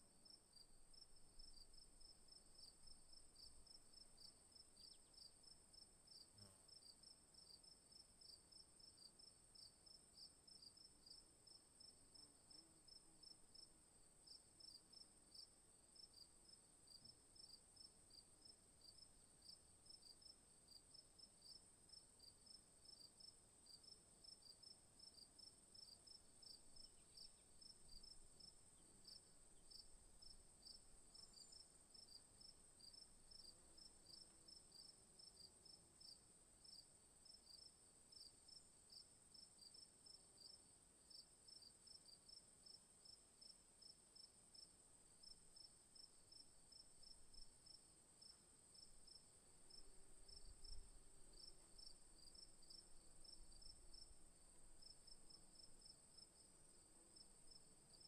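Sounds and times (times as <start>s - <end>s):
insect chirp: 0.0s - 58.0s.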